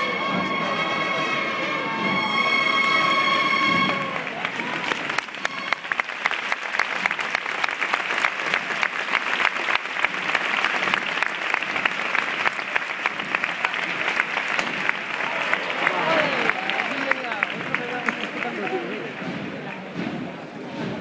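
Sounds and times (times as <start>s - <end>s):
marching band: 0.0s - 21.0s
crowd applauding: 2.1s - 21.0s.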